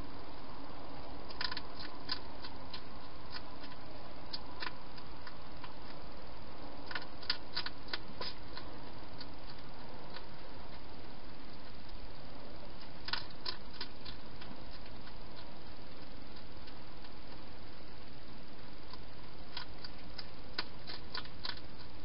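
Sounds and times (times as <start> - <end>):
faint hum: 0.0 - 22.0
hedgehog crunching food: 0.0 - 22.0
steady hiss: 0.0 - 22.0.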